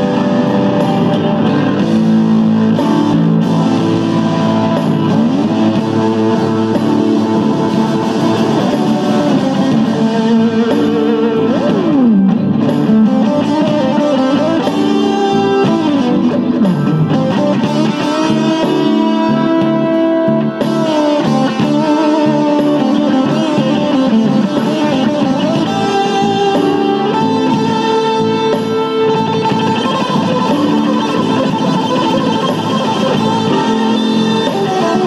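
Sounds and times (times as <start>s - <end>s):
blues electric guitar: 0.0s - 35.0s.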